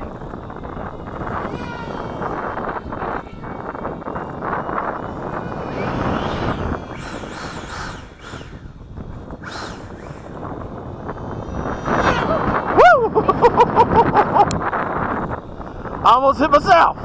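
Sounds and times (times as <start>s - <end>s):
rc jet whining past: 0.0s - 17.0s
wind noise on microphone: 0.0s - 17.0s.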